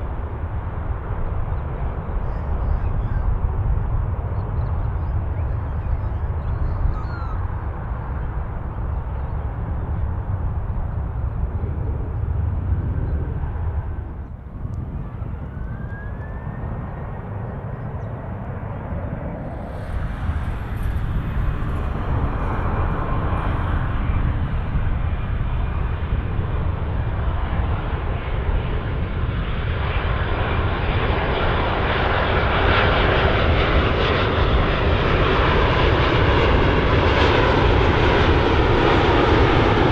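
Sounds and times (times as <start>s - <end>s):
jet engines rumbling with a whine: 0.0s - 39.9s.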